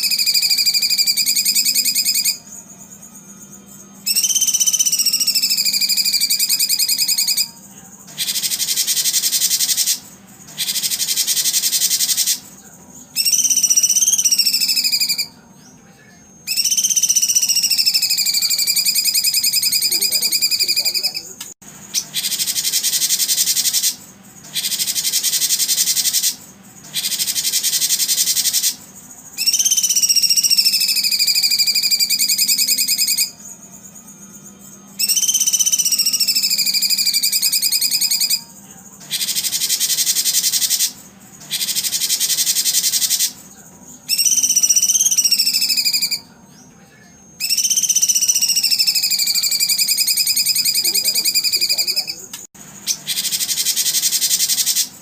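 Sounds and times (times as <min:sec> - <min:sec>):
bird whistling calls: 0:00.0 - 0:02.4, 0:04.0 - 0:07.6, 0:08.2 - 0:12.5, 0:13.1 - 0:15.4, 0:16.5 - 0:28.8, 0:29.4 - 0:33.4, 0:35.0 - 0:38.5, 0:39.1 - 0:43.4, 0:44.1 - 0:46.4, 0:47.4 - 0:55.0
rapid buzzing trill: 0:00.0 - 0:15.4, 0:16.4 - 0:46.3, 0:47.3 - 0:55.0.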